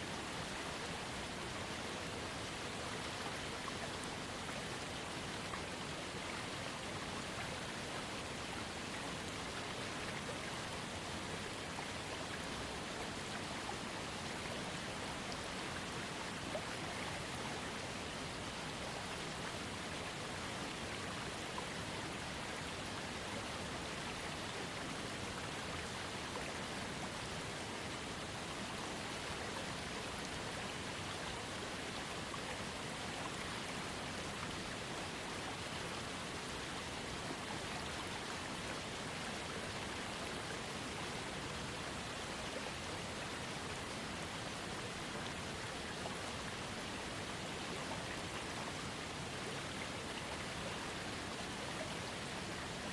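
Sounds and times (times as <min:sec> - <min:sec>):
trickling creek: 0:00.0 - 0:52.9.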